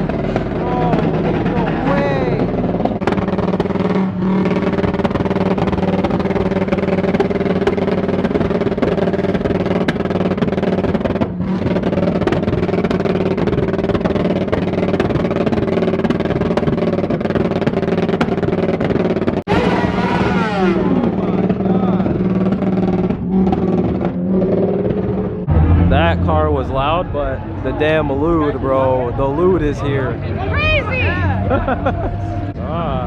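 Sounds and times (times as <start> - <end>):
car engine at high revs: 0.0 - 33.0.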